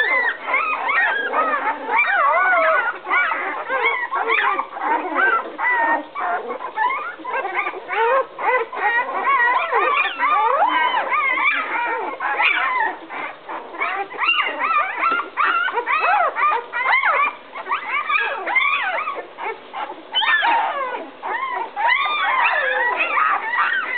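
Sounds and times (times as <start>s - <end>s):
puppies crying: 0.0s - 23.9s.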